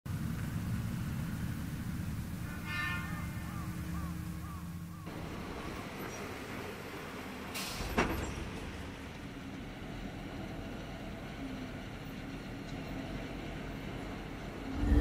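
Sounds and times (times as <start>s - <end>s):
vehicle engine rumbling: 0.1s - 15.0s.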